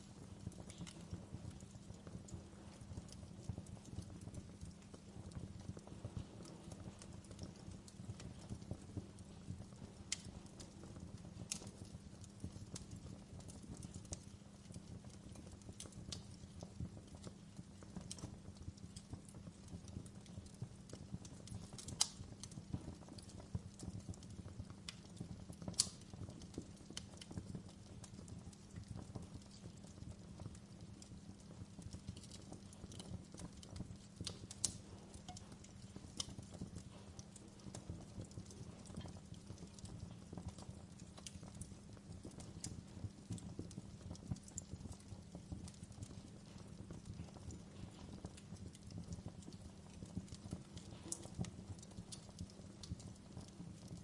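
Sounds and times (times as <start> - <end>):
wood fire crackling in a fireplace: 0.0 - 54.0.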